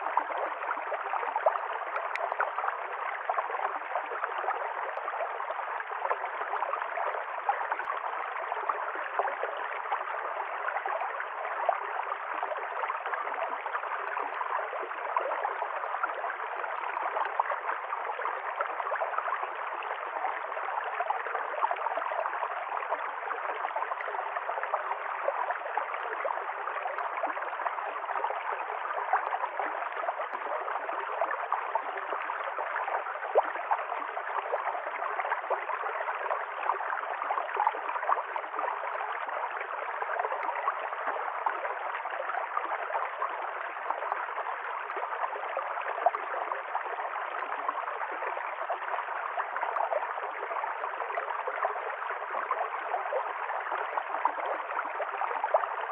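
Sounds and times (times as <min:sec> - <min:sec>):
stream gurgling over stones: 0:00.0 - 0:55.9.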